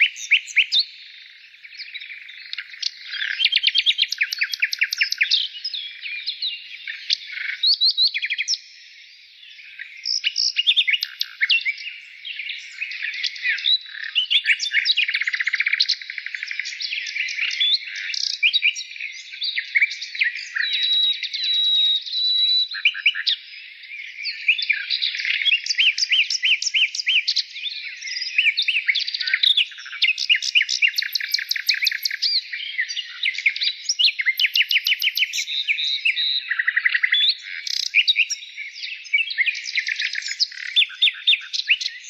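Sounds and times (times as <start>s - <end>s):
small birds chirping and trilling: 0.0s - 42.0s.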